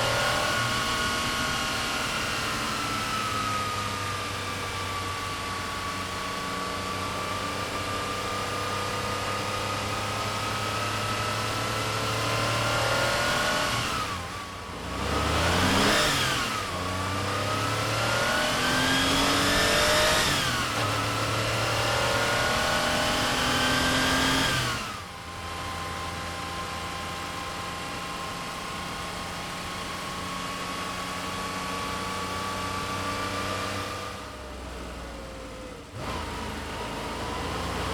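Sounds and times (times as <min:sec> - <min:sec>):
sports car engine revving: 0:00.0 - 0:37.9.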